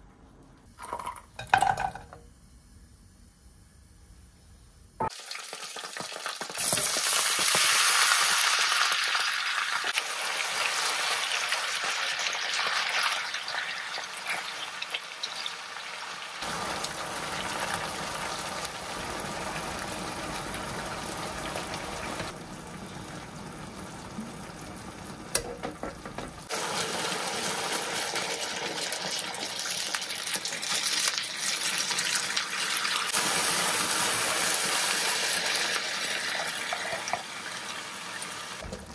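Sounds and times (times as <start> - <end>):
cooking hiss: 2.4 - 38.9.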